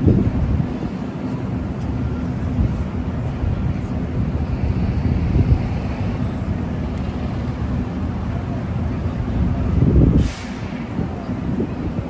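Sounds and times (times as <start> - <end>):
city street traffic rumble: 0.0 - 12.0
wind buffeting microphone: 0.0 - 12.0.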